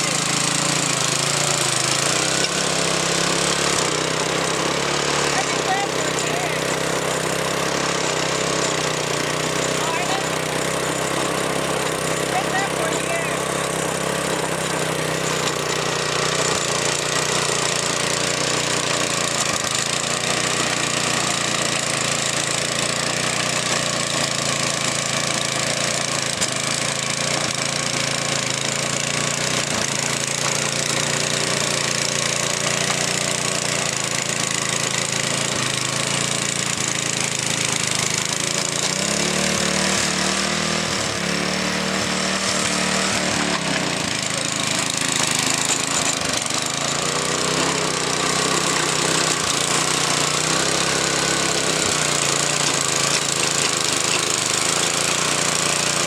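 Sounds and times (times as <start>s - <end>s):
garden tiller engine running: 0.0s - 56.0s.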